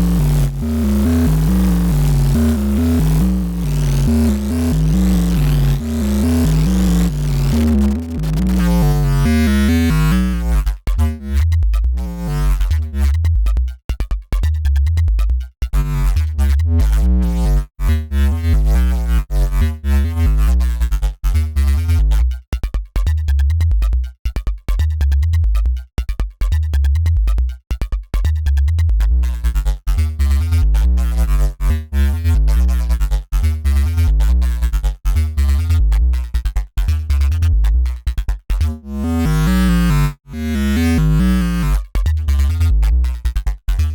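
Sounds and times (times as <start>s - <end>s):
synth bass riff: 0.0s - 13.8s, 14.4s - 22.4s, 28.3s - 43.9s.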